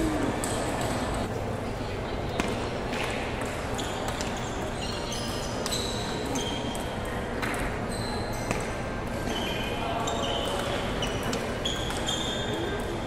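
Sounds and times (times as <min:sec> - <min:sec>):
large hall background noise: 0:00.0 - 0:13.0.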